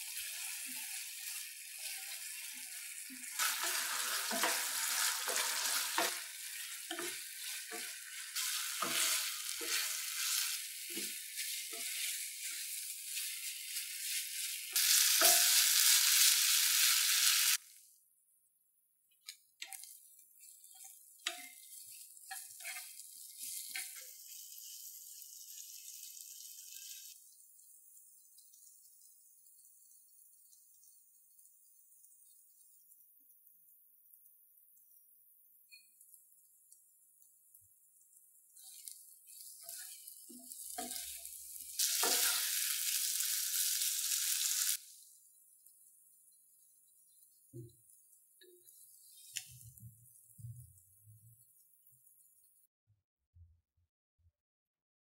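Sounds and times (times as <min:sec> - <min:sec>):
chicken frying in oil: 0:00.0 - 0:17.9, 0:19.1 - 0:52.7
loud sizzle: 0:00.0 - 0:17.9, 0:19.6 - 0:52.6.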